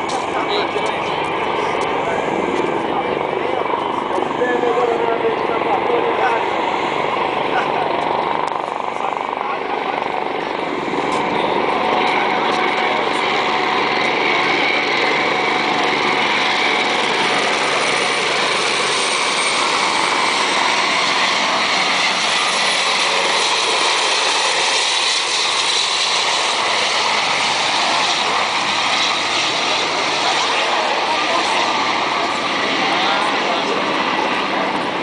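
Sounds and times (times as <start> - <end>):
helicopter turbine and rotor: 0.0 - 35.0.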